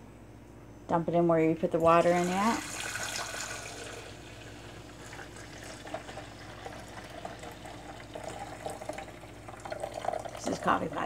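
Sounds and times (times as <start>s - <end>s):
liquid pouring into reservoir: 1.8s - 11.0s.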